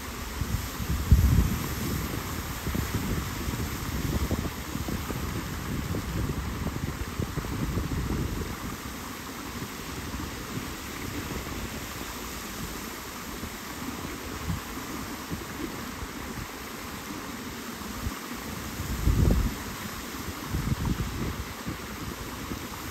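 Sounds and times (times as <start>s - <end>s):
wind buffeting microphone: 0.0s - 16.6s, 17.9s - 22.9s
flowing river water: 0.0s - 22.9s.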